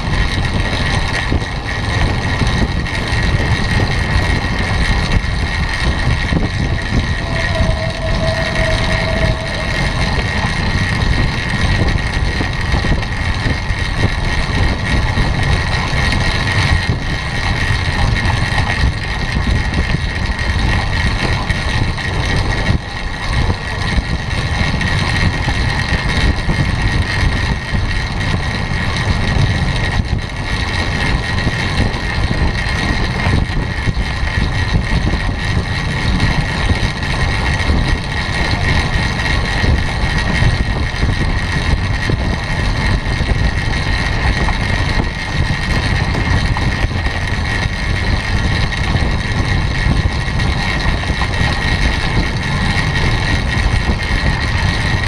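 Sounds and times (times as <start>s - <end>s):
bike tyres rolling on wooden boards: 0.0s - 55.0s
constant high hum: 0.0s - 55.0s
wind rushing over microphone: 0.0s - 55.0s.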